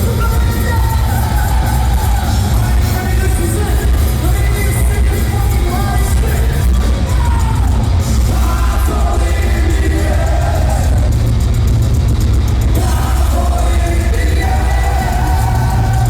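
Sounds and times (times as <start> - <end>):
sung vocals: 0.0 - 11.8, 12.5 - 16.0
live heavy metal band: 0.0 - 16.0.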